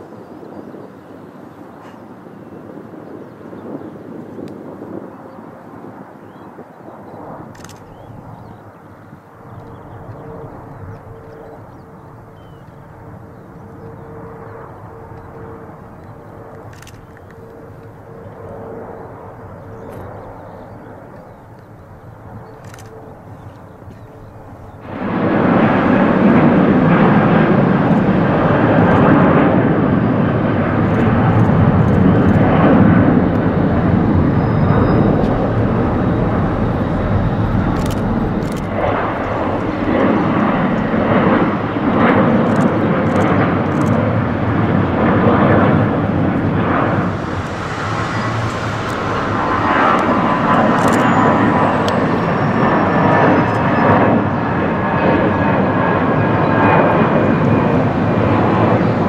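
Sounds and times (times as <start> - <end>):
jet engines rumbling at takeoff: 0.0 - 59.0.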